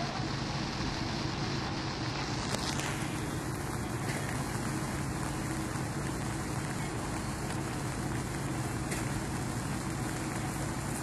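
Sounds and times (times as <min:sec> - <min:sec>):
low steady hum: 0:00.0 - 0:11.0
steady rushing noise: 0:00.0 - 0:11.0.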